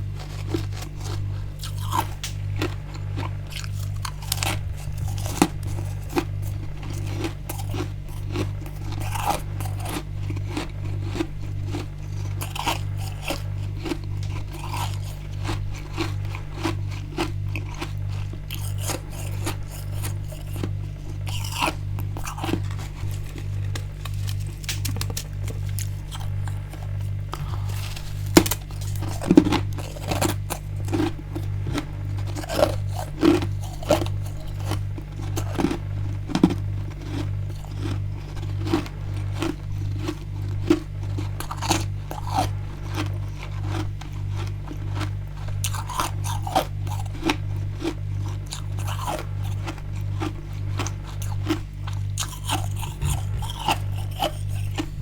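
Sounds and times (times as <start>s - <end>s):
freezer frost crunching and scraping: 0.0s - 55.0s
steady low pulsing hum: 0.0s - 55.0s.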